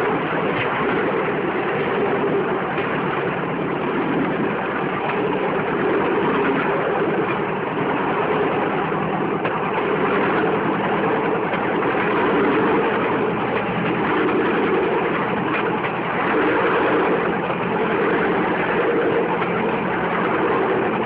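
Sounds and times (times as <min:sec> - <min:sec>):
wind and wheels on track: 0:00.0 - 0:21.0.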